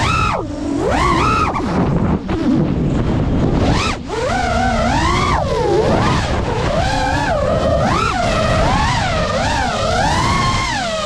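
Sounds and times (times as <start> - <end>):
drone motors whining: 0.0 - 11.0
wind rushing over microphone: 0.0 - 11.0.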